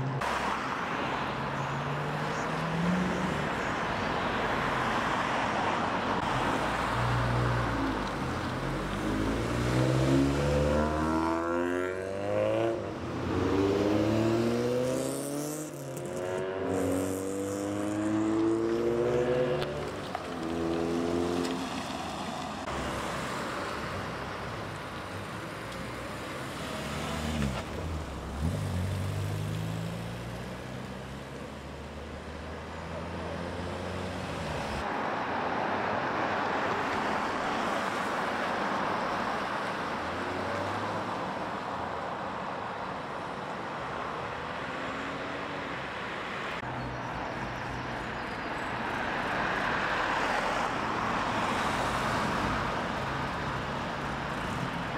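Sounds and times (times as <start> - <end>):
cars driving past: 0.0 - 54.9.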